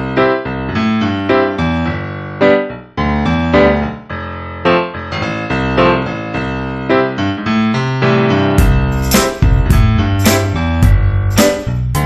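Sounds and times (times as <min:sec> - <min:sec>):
keyboard music: 0:00.0 - 0:12.0.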